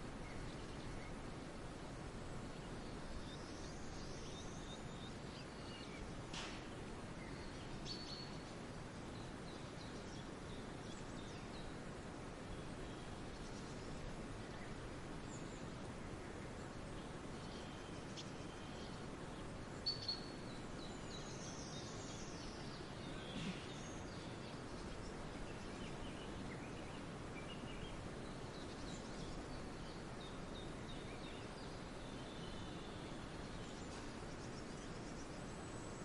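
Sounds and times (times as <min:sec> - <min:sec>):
songbirds chirping and whistling: 0:00.0 - 0:01.4, 0:02.2 - 0:36.0
steady background hiss: 0:00.0 - 0:36.0.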